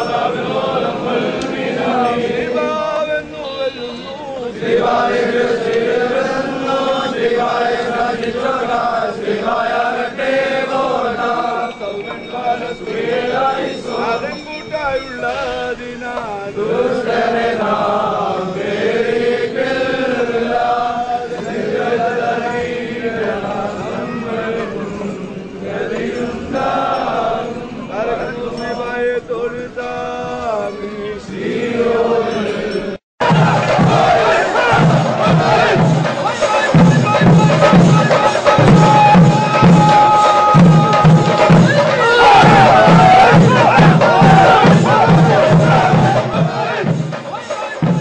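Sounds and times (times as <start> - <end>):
choir chanting a hymn: 0.0 - 48.0.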